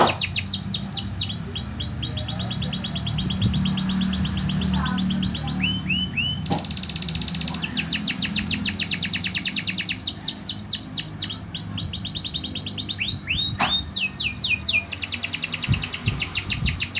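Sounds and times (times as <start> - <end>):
downward-sweeping bird calls: 0.0 - 16.9
sparrow chirping: 0.0 - 16.9.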